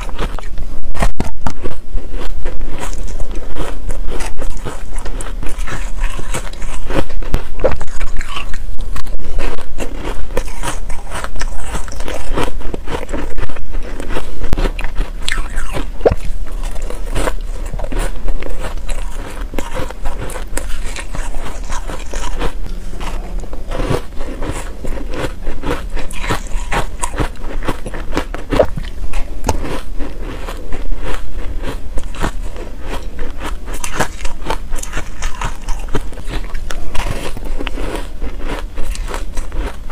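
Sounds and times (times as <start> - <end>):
ice crunching when bitten: 0.0 - 39.8.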